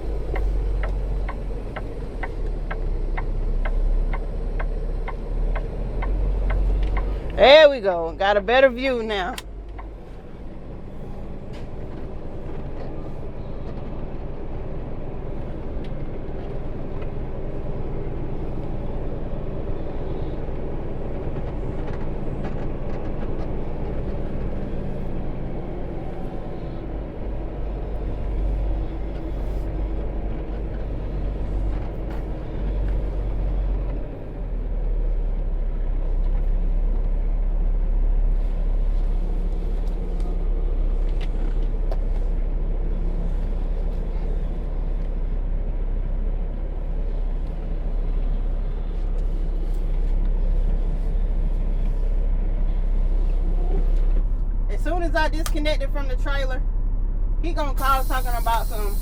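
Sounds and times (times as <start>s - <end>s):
diesel truck engine rumbling: 0.0s - 59.0s.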